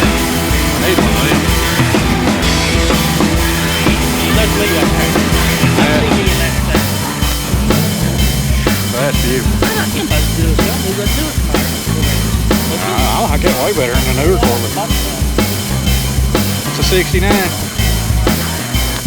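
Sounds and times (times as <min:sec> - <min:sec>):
rock music with drums and bass: 0:00.0 - 0:19.0.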